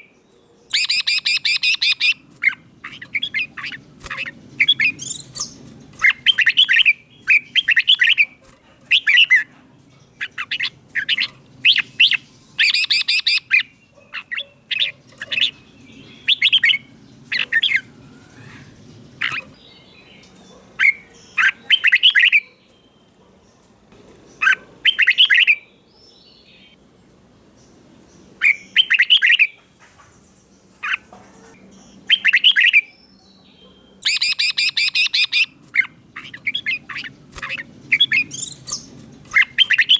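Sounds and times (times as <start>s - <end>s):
bird singing warbling phrases: 0.0s - 26.8s, 27.6s - 39.9s.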